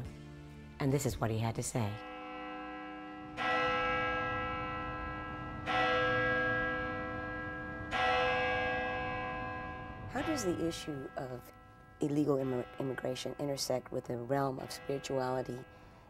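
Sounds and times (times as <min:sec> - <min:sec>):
church bell tolling: 0:02.0 - 0:16.0.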